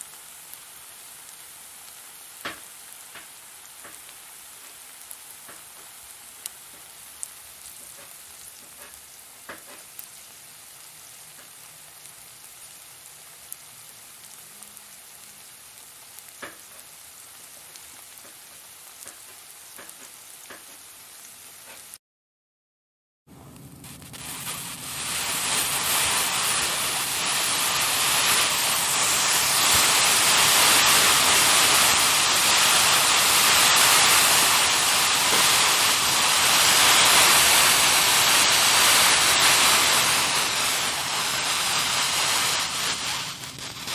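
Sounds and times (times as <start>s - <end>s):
fire hissing and crackling: 0.0s - 22.0s, 23.4s - 43.9s.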